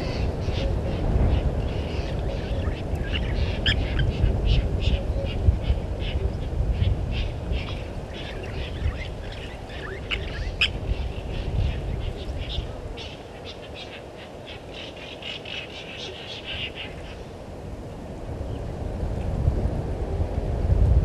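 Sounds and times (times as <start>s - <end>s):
low rumbling noise: 0.0s - 13.4s, 16.4s - 21.0s
wild birds chirping: 0.0s - 18.7s.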